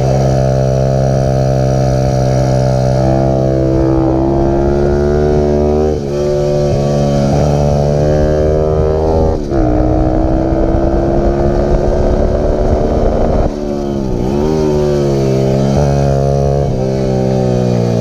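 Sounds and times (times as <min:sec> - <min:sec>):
small motorbike engine revving: 0:00.0 - 0:18.0.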